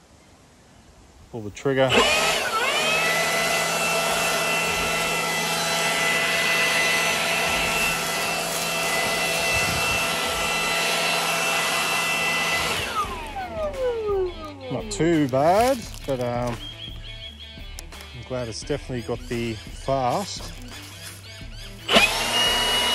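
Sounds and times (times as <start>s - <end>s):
leaf blower fan whine: 1.6s - 22.9s.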